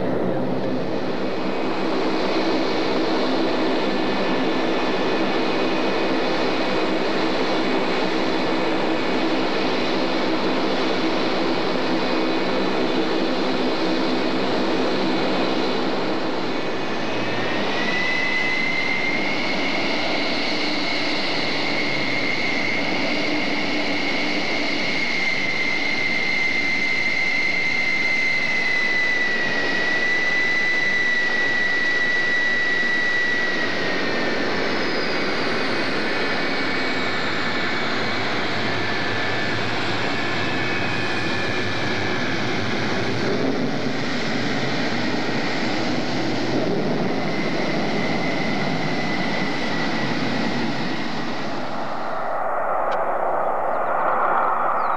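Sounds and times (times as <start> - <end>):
jet engine whine and rumble: 0.0 - 54.9.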